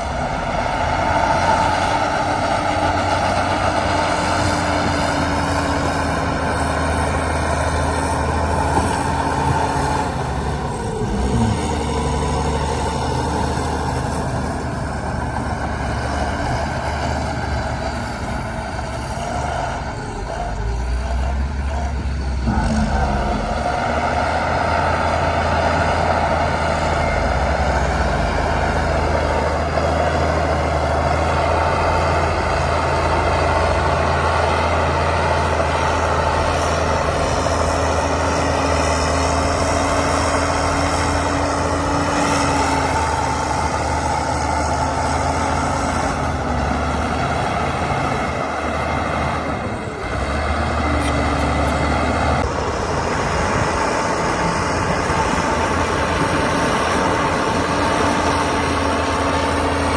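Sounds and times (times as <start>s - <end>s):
diesel machinery engine: 0.0s - 59.9s.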